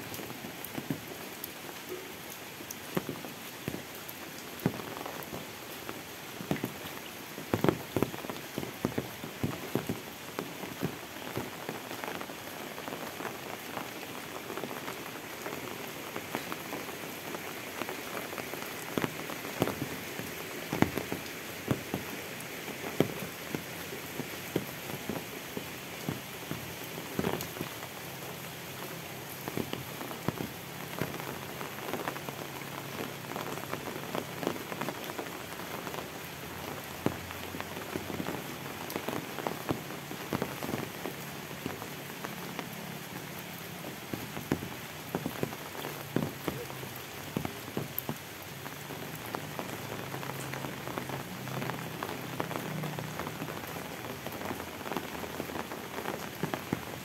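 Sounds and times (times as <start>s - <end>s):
close raindrop hits: 0.0s - 57.0s
rain falling on pavement: 0.0s - 57.0s.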